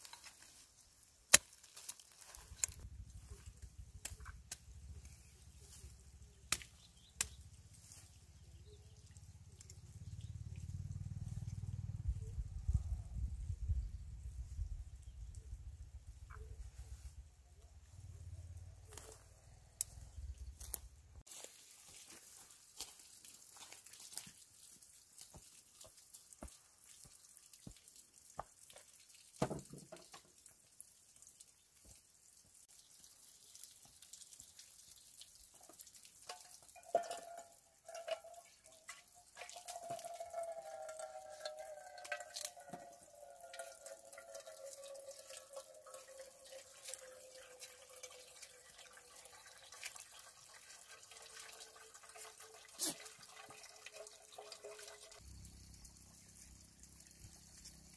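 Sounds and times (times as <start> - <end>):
water dripping and splashing: 0.0 - 11.7, 20.6 - 57.9.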